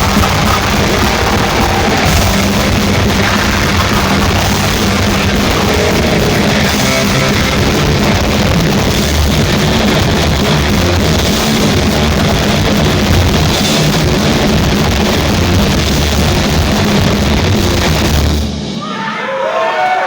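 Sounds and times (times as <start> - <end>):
heavy metal band playing live: 0.0 - 19.4.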